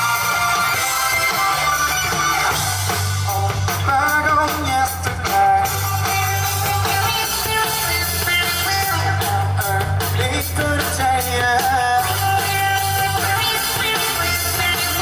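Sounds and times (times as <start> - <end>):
drum and cymbal hits: 0.0 - 15.0
rock band playing: 0.0 - 15.0.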